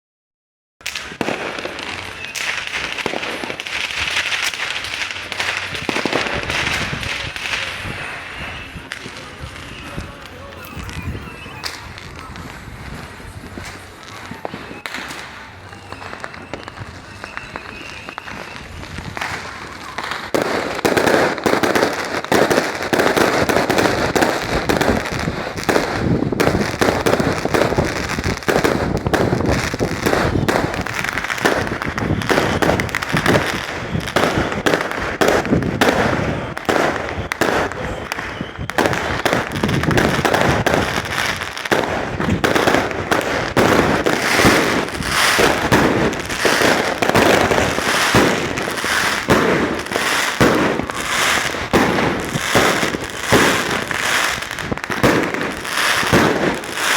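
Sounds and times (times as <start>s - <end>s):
fireworks and firecrackers banging: 0.8s - 56.9s.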